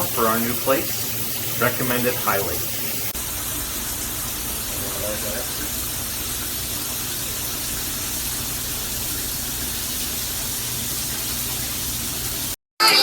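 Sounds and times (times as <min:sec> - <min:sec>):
shower water spraying: 0:00.0 - 0:12.6.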